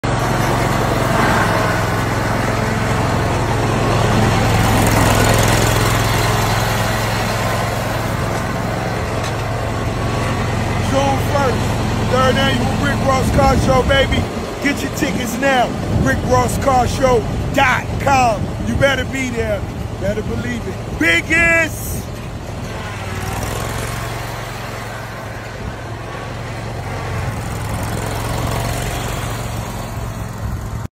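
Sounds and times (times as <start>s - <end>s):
lawn mower engine running: 0.0s - 30.9s.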